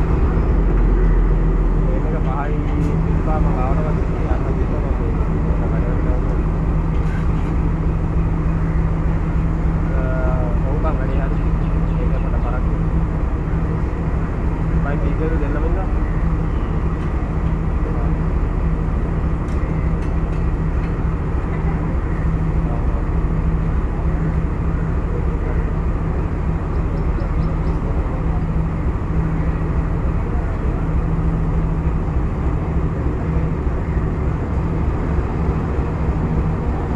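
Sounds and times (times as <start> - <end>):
locomotive engine idling: 0.0 - 36.9.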